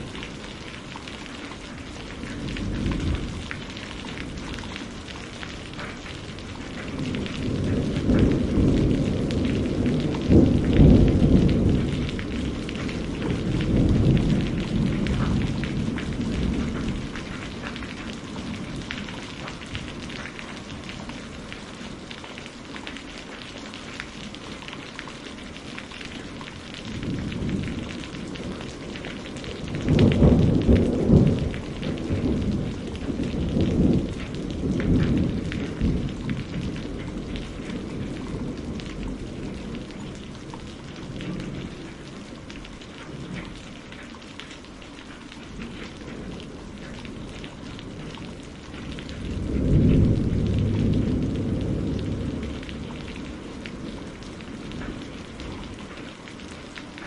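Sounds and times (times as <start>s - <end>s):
thunder rumbling: 0.0s - 44.1s, 45.4s - 56.6s
steady rain: 0.0s - 57.0s.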